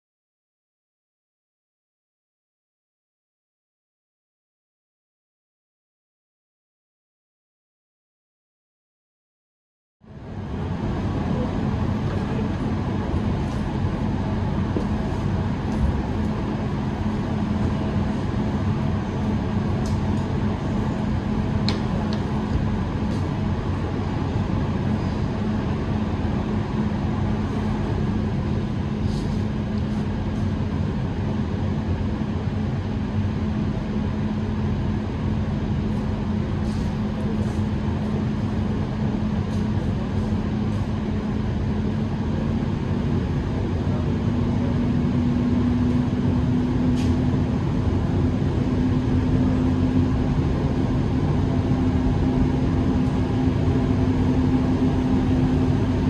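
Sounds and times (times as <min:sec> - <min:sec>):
air-conditioning noise: 0:10.0 - 0:56.0
train hum: 0:10.0 - 0:56.0.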